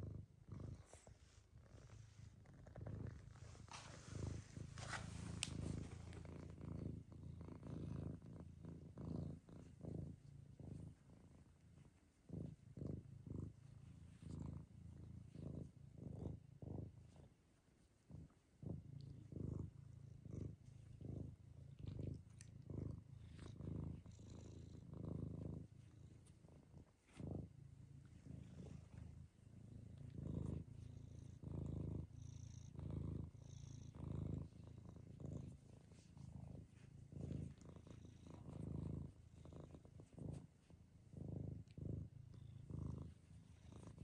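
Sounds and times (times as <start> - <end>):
cat purring: 0.0 - 44.0.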